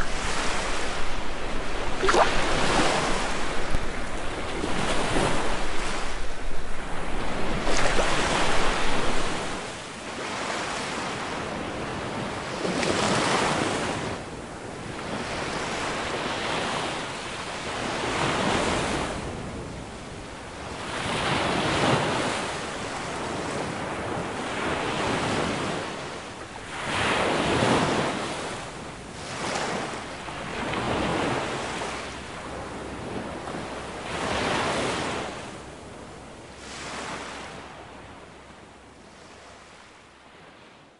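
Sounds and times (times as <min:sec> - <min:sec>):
small waves washing up beach: 0:00.0 - 0:40.8.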